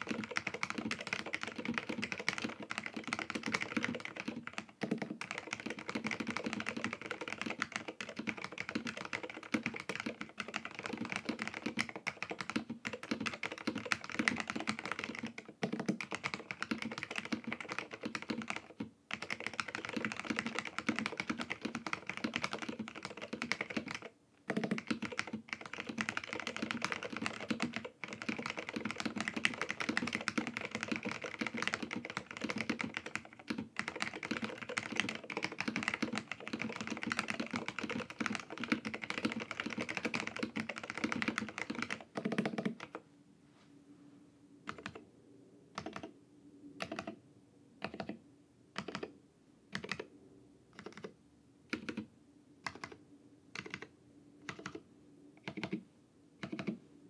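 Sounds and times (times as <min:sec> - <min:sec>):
fast typing on mechanical keyboard: 0:00.0 - 0:43.0, 0:44.7 - 0:45.0, 0:45.8 - 0:46.1, 0:46.8 - 0:47.2, 0:47.8 - 0:48.2, 0:48.8 - 0:49.1, 0:49.7 - 0:50.1, 0:50.8 - 0:54.8, 0:55.4 - 0:55.8, 0:56.4 - 0:56.8.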